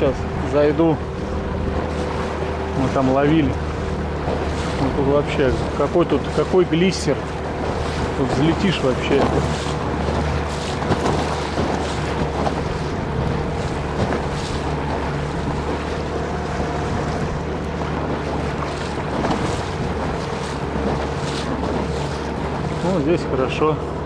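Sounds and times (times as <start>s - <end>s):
boat on choppy water: 0.0s - 24.0s
outboard motor running: 0.0s - 24.0s
wind buffeting microphone: 0.0s - 24.0s.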